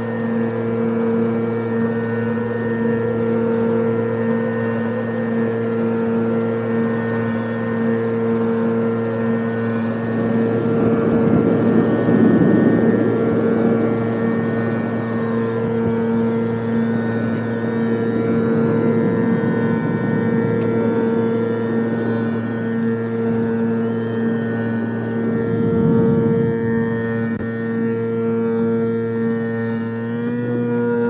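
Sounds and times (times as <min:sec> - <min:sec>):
recorded engine sound from speaker: 0:00.0 - 0:31.0.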